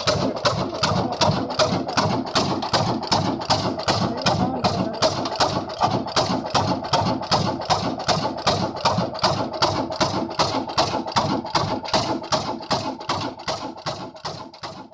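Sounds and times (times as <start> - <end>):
diesel engine knocking: 0.0 - 14.9.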